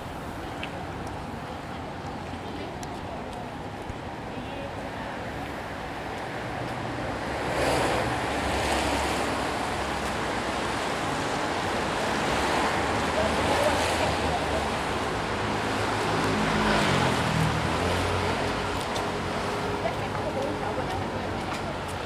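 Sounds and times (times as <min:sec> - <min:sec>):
engine hum of nearby vehicles: 0:00.0 - 0:22.0
passing cars and tyre noise: 0:00.0 - 0:22.0.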